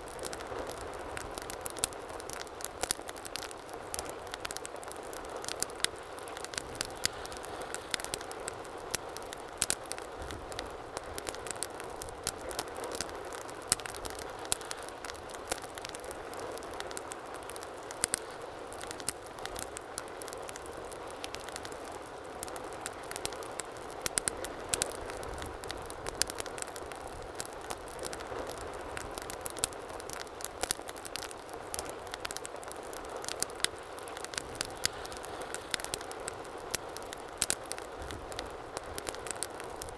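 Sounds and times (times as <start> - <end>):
wood fire crackles and pops: 0.0 - 39.9.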